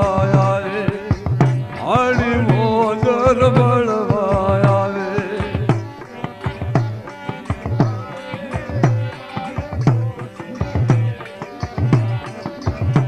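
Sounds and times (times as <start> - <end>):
hand drum beat with slaps: 0.0 - 13.0.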